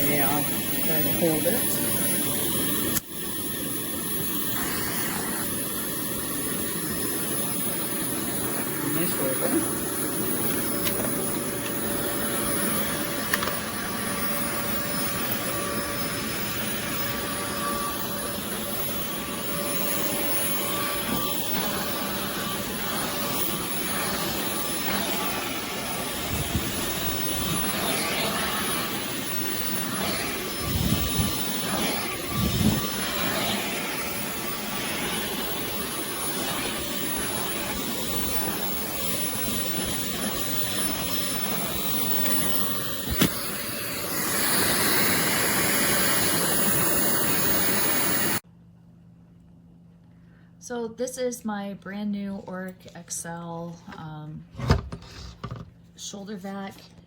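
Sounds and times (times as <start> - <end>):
vacuum cleaner running: 0.0 - 48.4, 53.3 - 57.0.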